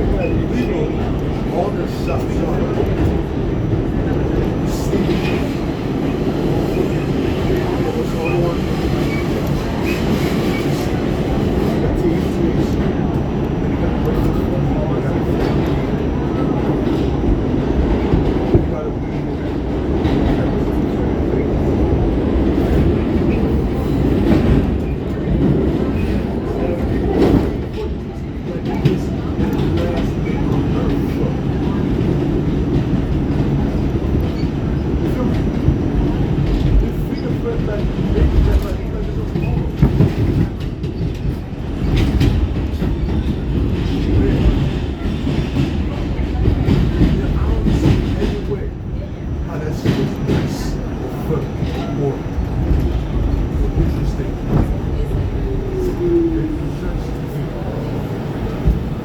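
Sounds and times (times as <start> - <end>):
subway car rumbling on track: 0.0 - 59.0.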